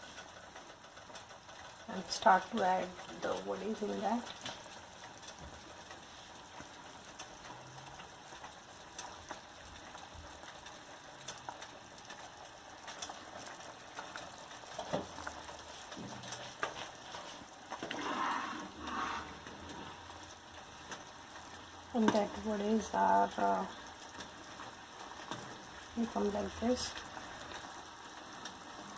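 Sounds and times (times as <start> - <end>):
curry boiling in a pan: 0.0 - 28.9.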